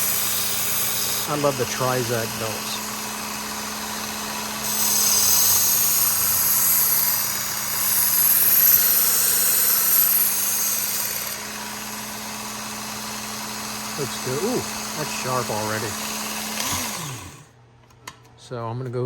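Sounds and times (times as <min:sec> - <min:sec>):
belt sharpener motor hum: 0:00.0 - 0:17.5.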